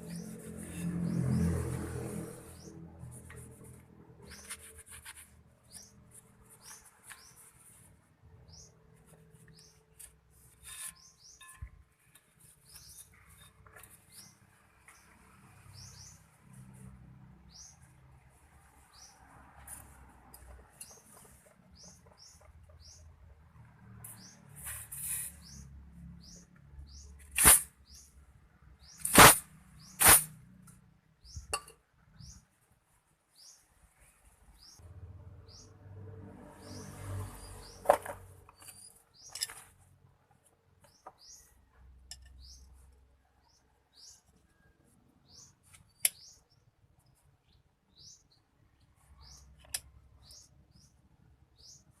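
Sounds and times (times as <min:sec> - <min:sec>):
small birds chirping: 0:00.0 - 0:32.7, 0:33.3 - 0:34.8, 0:35.5 - 0:35.8, 0:36.6 - 0:52.0.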